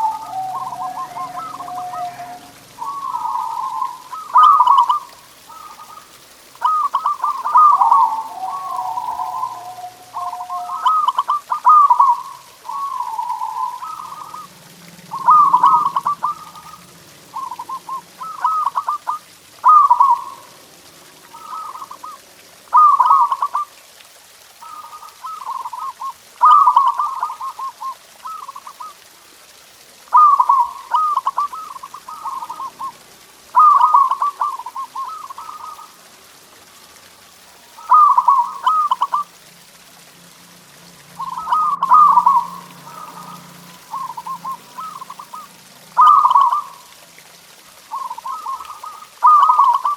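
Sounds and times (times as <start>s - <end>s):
dove cooing: 0.0s - 20.6s, 21.2s - 23.7s, 24.6s - 29.0s, 30.1s - 36.2s, 37.7s - 39.3s, 41.2s - 47.0s, 47.8s - 49.9s.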